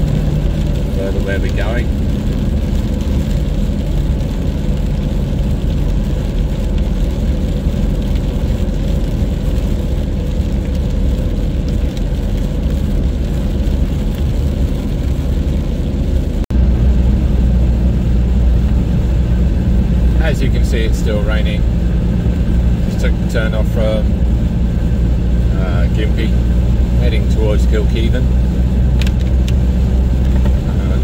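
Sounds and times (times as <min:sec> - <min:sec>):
car engine drone: 0:00.0 - 0:31.0.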